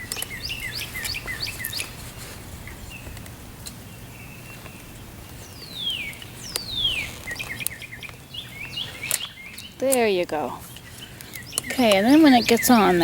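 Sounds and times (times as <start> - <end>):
bird chirps: 0.0 - 2.0, 3.9 - 13.0.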